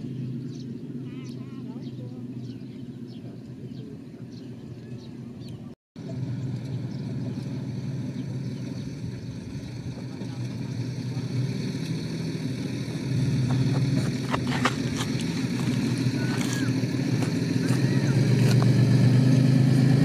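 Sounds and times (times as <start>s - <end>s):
diesel truck engine driving: 0.0s - 20.0s.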